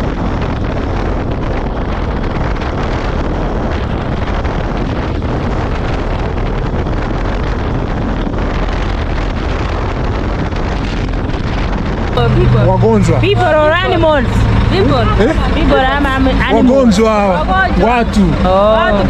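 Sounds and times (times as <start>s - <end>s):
motorcycle engine and road noise: 0.0s - 19.0s
wind over microphone: 0.0s - 19.0s.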